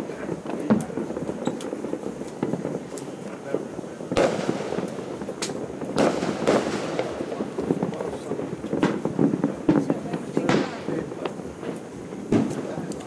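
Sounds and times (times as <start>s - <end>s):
distant fireworks crackling: 0.0s - 13.0s
firework bangs: 0.0s - 13.0s.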